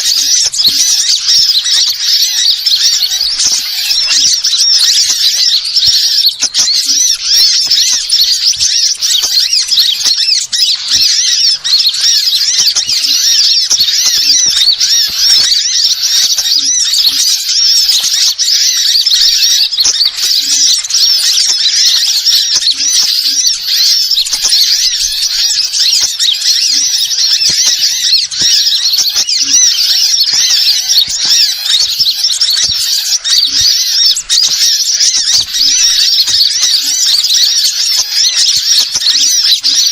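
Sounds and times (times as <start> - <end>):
high-pitched bird chirping: 0.0 - 39.9.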